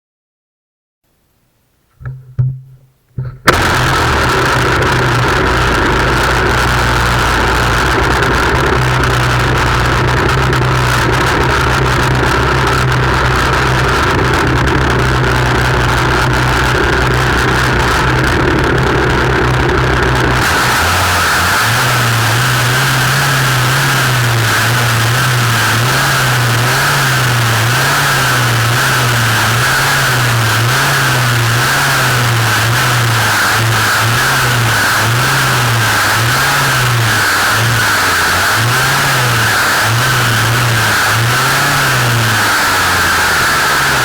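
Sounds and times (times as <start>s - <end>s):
brushcutter engine running: 3.2s - 44.0s.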